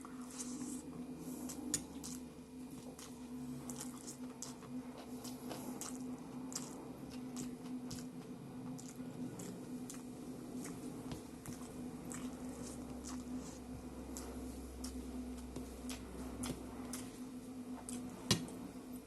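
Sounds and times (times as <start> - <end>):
person chewing food: 0.0 - 18.6
steady low hum: 0.0 - 19.0.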